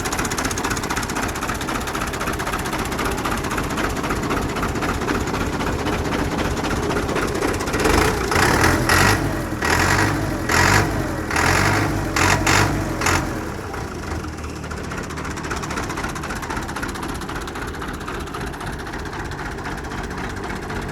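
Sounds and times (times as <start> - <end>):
tractor diesel engine revving: 0.0 - 20.9.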